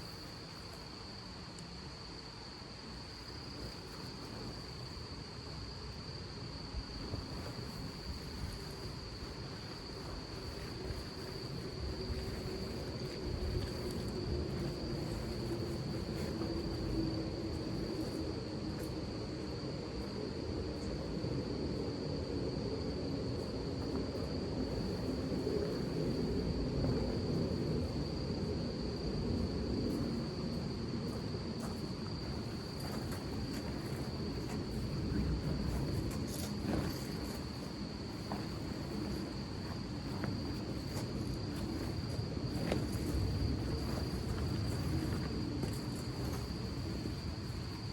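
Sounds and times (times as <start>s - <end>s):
high-pitched insect trill: 0.0s - 47.9s
wind and rain rumble: 0.0s - 47.9s.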